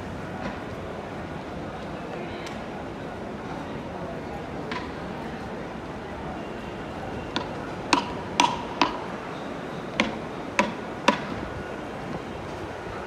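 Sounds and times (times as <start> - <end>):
crowded concourse din: 0.0 - 13.0.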